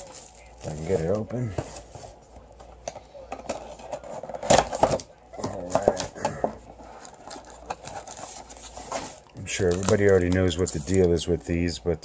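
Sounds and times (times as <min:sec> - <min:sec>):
packaging rustling: 0:00.0 - 0:11.4.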